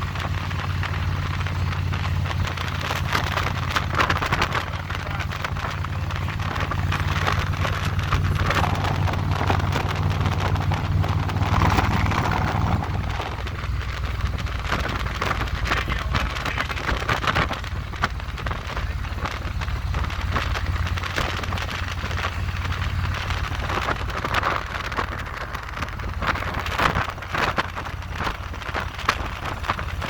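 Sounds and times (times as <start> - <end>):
motorcycle engine running: 0.0 - 30.0
wind buffeting microphone: 0.0 - 30.0.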